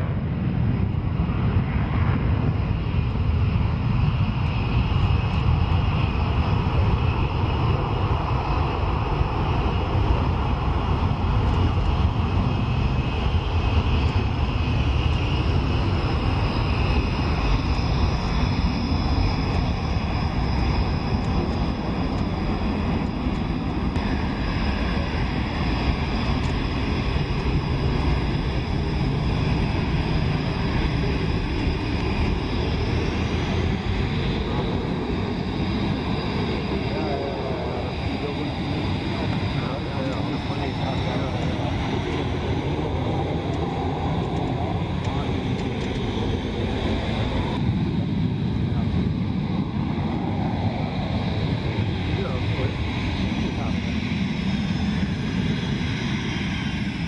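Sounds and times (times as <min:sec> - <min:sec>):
high turbine whine: 0:00.0 - 0:57.0
jet engine roar: 0:00.0 - 0:57.0.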